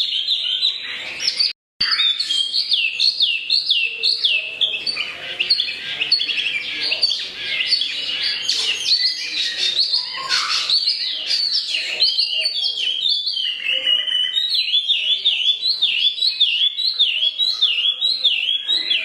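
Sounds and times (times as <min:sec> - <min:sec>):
songbird singing chirps and trills: 0:00.0 - 0:19.0.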